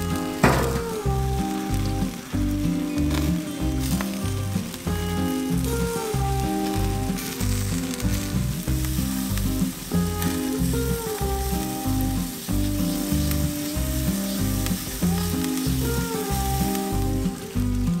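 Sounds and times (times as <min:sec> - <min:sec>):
chicken sizzling on grill: 0:00.0 - 0:18.0
music with bass beat: 0:00.0 - 0:18.0.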